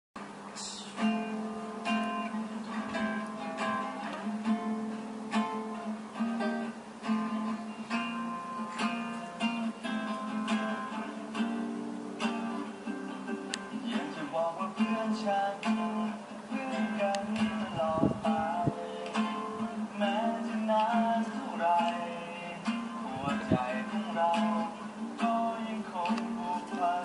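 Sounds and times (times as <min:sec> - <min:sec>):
acoustic guitar playing: 0:00.2 - 0:27.0.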